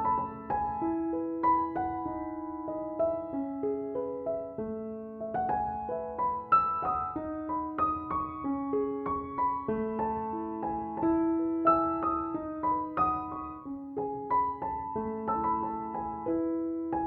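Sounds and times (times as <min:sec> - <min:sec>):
gentle solo piano piece: 0:00.0 - 0:17.0.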